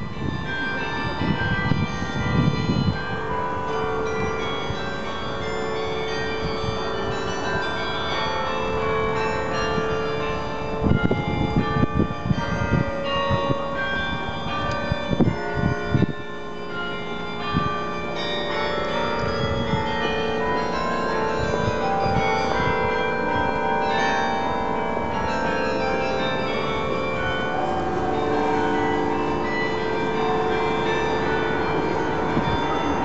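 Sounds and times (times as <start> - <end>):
carillon bells playing melody: 0.0 - 33.0.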